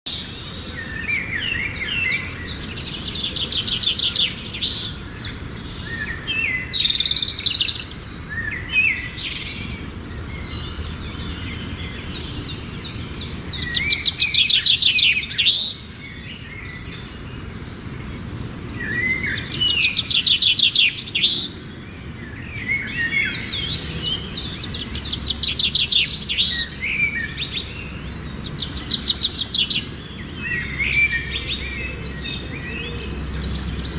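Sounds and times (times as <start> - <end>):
songbirds trilling and chirping: 0.1 - 33.9.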